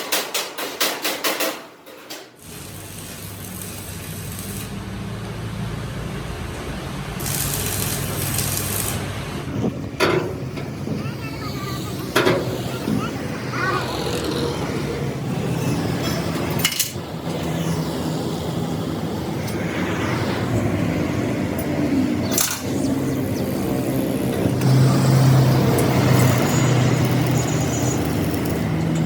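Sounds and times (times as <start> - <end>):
engine running: 2.4 - 29.0.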